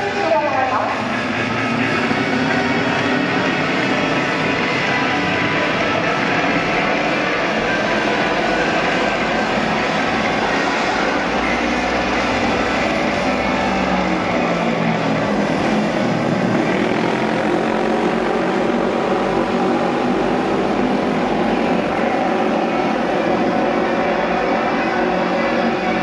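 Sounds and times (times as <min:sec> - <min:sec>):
racing motorcycle engines: 0:00.0 - 0:26.0.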